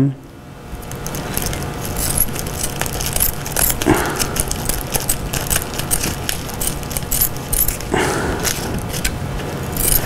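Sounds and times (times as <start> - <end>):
plastic crinkling: 0.8 - 10.0
scissors snipping: 0.9 - 10.0.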